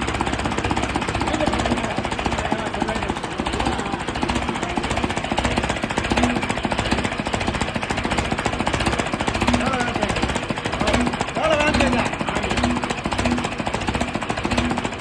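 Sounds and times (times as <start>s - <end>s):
diesel tractor engine knocking: 0.0s - 15.0s.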